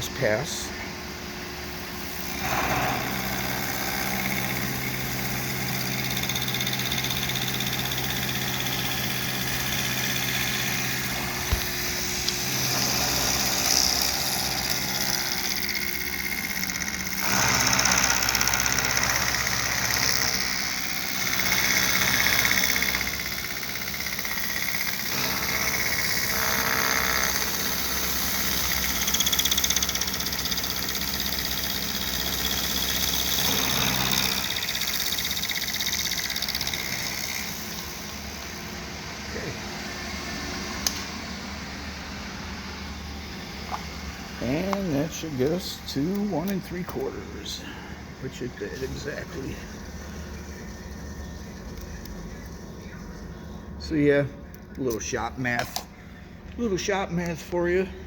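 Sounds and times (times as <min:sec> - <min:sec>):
milling machine motor hum: 0:00.0 - 0:53.8.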